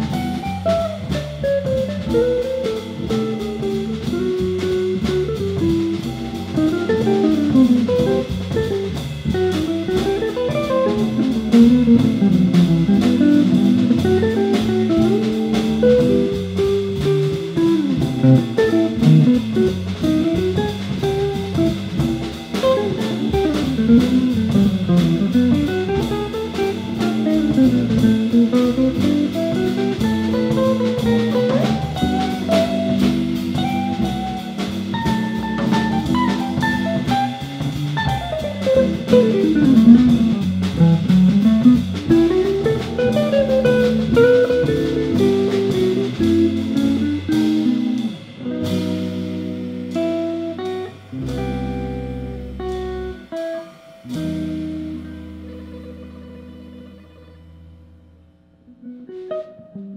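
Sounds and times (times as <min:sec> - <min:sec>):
drum kit: 0:00.0 - 0:57.2, 0:58.7 - 0:59.9
slow blues band: 0:00.0 - 0:57.8, 0:58.7 - 0:59.9
electric guitar lines: 0:00.0 - 0:58.0.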